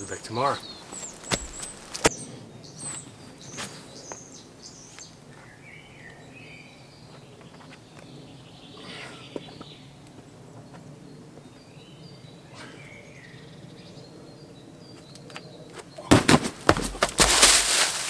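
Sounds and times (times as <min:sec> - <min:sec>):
small birds chirping: 0:00.0 - 0:16.2.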